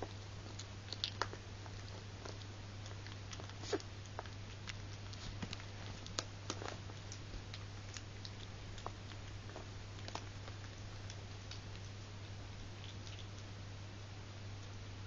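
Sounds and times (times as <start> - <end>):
puppy eating from food bowl: 0.0 - 13.6.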